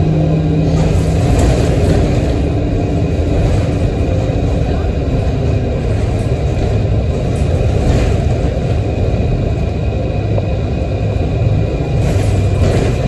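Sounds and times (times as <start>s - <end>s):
bus engine drone: 0.0s - 13.0s
road rumble: 0.0s - 13.0s.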